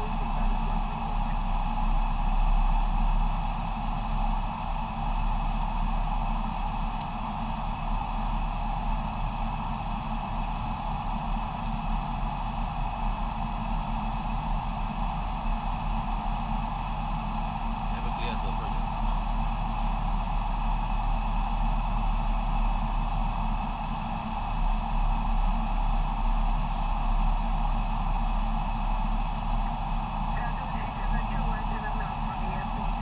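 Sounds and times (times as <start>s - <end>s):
low hum: 0.0s - 33.0s
rush of air over airliner cockpit: 0.0s - 33.0s.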